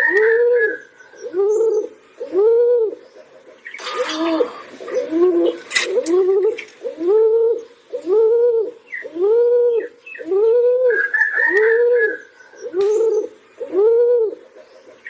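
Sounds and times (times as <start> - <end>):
pigeon cooing: 0.0 - 15.0.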